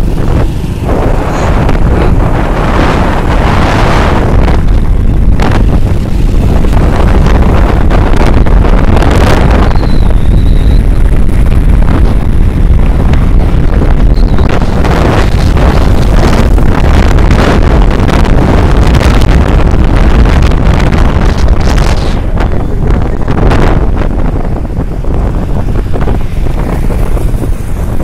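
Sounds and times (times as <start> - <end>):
road and engine rumble: 0.0 - 28.0
wind buffeting microphone: 0.0 - 28.0.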